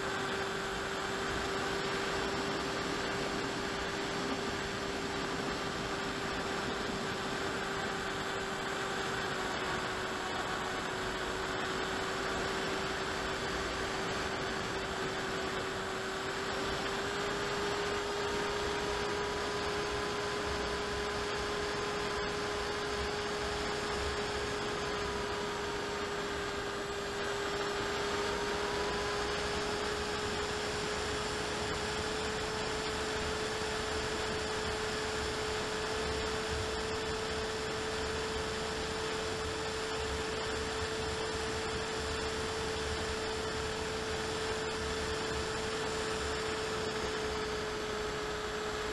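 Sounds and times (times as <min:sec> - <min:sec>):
model aircraft motor humming: 0:00.0 - 0:48.9.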